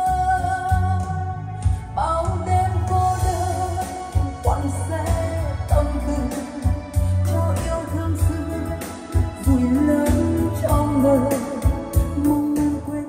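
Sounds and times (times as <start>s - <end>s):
person singing: 0.0s - 13.0s
steady bass line: 0.0s - 13.0s.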